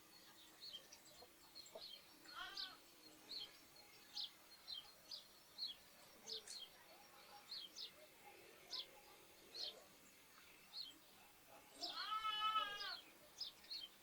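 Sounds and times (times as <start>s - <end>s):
faint background hiss: 0.0s - 14.0s
sparrows chirping: 0.0s - 14.0s.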